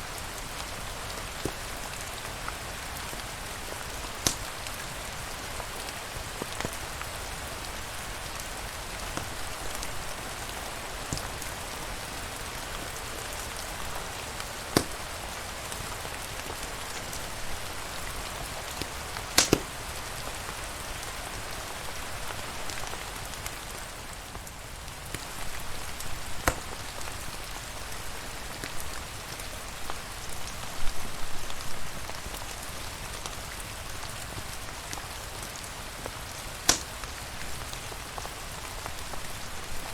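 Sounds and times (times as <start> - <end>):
rain hissing: 0.0 - 39.9
wood fire crackling and popping: 0.1 - 28.9, 33.2 - 39.9.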